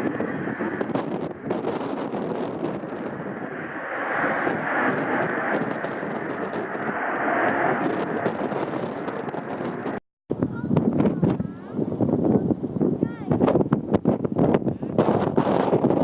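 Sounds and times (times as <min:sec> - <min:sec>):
jet airliner passing: 0:00.0 - 0:13.0.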